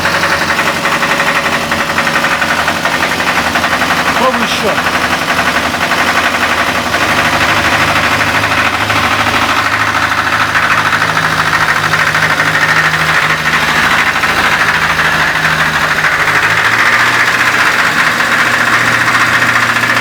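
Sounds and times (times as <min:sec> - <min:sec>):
car engine running: 0:00.0 - 0:20.0
engine rumble: 0:00.0 - 0:20.0.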